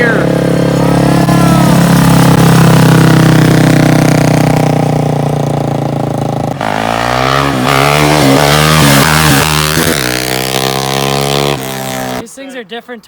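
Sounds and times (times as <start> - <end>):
quad engine revving: 0.0 - 12.2.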